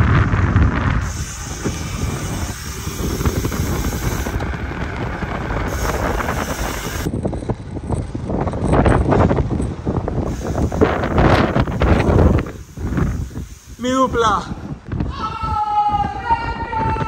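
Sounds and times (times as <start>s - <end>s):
steady low rumble: 0.0s - 13.8s
wind buffeting microphone: 0.0s - 17.0s.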